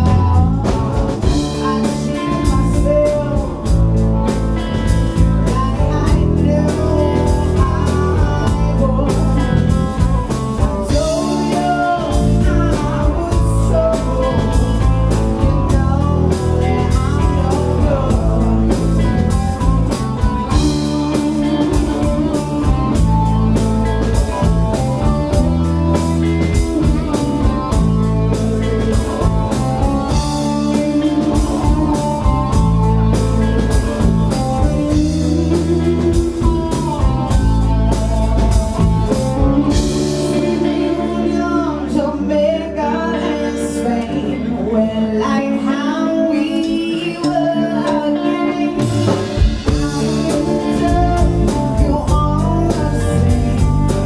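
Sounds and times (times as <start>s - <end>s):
drum kit: 0.0s - 42.2s, 46.5s - 54.0s
electric bass: 0.0s - 54.0s
electric guitars: 0.0s - 54.0s.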